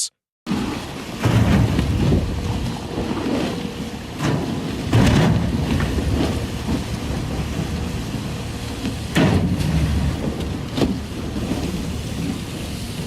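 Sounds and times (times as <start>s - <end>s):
waves crashing against a ship: 0.5s - 13.0s.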